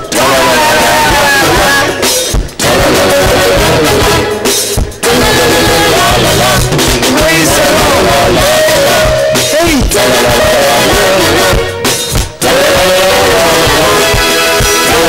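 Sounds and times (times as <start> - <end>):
worship music with singing: 0.0 - 15.0.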